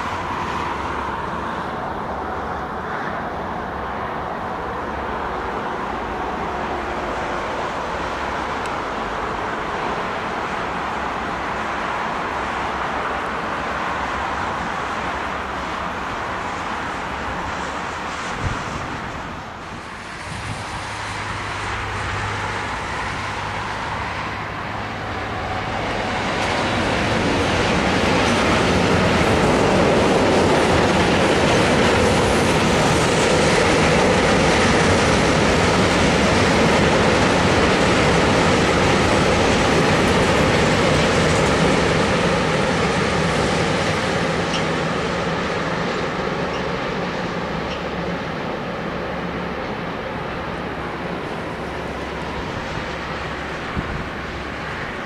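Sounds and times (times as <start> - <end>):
train wheels rolling on track: 0.0 - 55.0.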